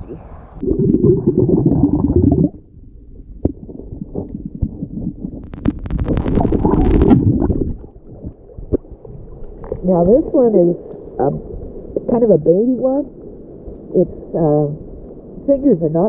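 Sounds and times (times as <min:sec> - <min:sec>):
muffled underwater rumbling: 0:00.0 - 0:16.0
crackle: 0:00.5 - 0:15.7.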